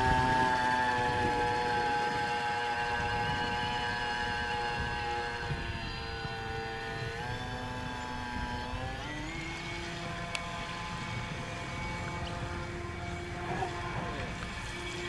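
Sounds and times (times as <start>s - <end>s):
model boat motor whine: 0.0s - 15.0s.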